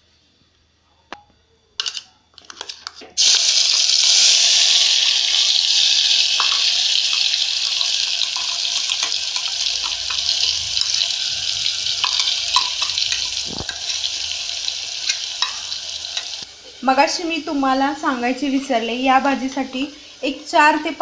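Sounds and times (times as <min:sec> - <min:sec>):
paste sizzling in hot oil: 0:03.2 - 0:21.0.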